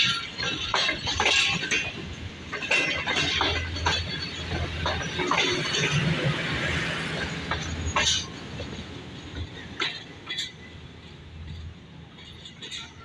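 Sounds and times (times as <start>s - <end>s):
sharp clacks: 0.0s - 10.6s
train rumble and hiss: 0.0s - 13.0s.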